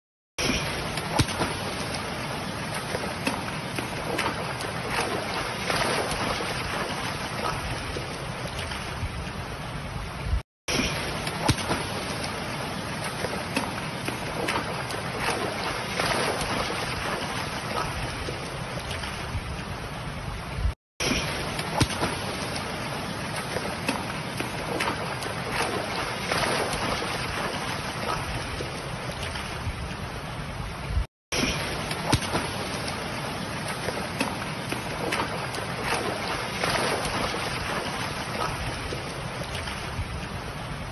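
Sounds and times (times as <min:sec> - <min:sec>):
water rushing over causeway: 0:00.4 - 0:40.9.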